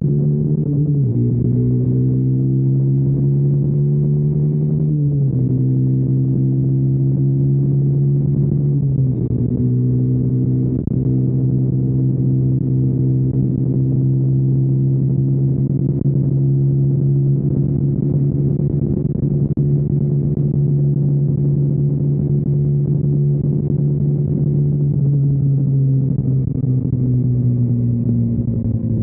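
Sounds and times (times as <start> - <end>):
motorcycle engine riding: 0.0 - 29.0.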